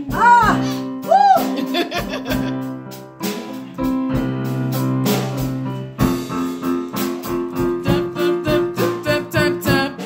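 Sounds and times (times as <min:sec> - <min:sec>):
electronic keyboard piano chords: 0:00.0 - 0:10.0.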